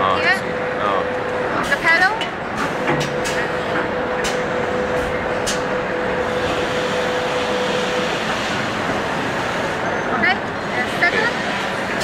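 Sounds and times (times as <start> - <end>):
rushing machine noise: 0.0 - 12.0.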